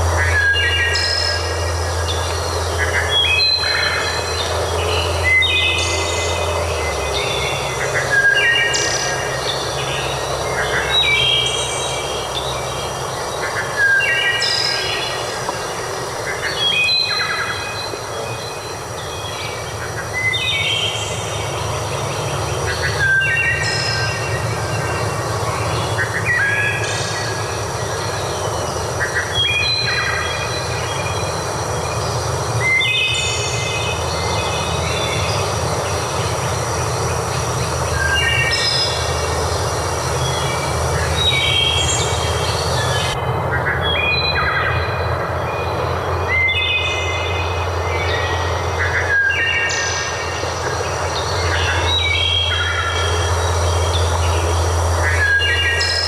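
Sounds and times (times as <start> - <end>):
low rumbling background noise: 0.0 - 56.0
songbirds singing whistled notes: 0.0 - 56.0.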